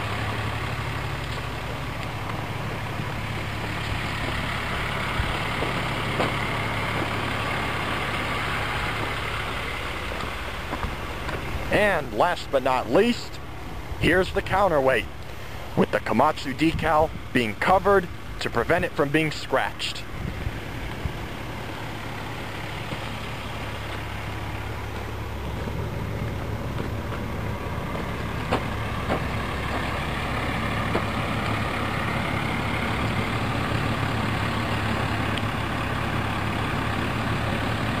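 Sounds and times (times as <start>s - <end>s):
diesel engine low drone: 0.0s - 38.0s.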